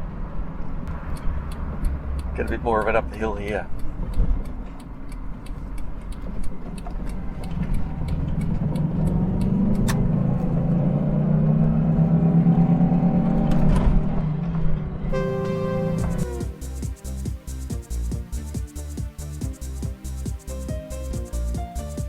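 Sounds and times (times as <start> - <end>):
car engine burbling under load: 0.0 - 21.6.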